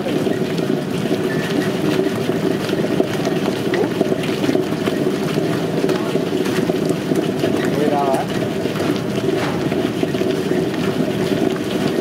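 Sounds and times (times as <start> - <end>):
wet grinder grinding batter: 0.0 - 12.0.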